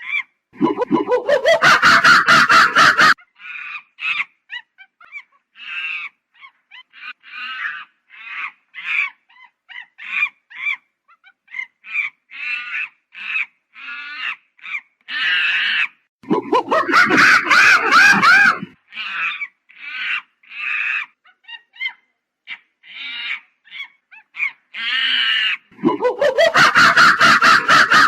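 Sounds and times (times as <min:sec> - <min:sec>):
monkey calling: 0:00.0 - 0:28.0.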